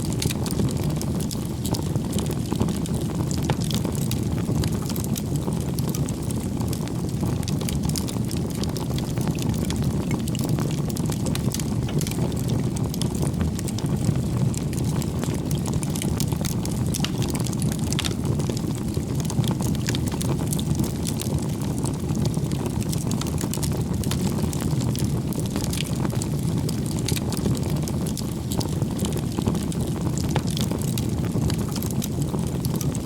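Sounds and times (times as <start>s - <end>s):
campfire flames rushing: 0.0s - 33.0s
firewood crackling and popping: 0.0s - 33.0s.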